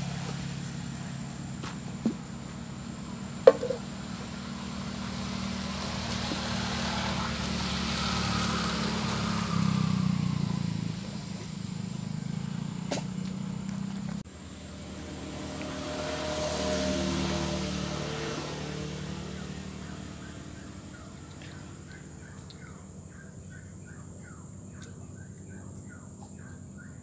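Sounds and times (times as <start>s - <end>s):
vehicle engine hum passing: 0.0s - 27.0s.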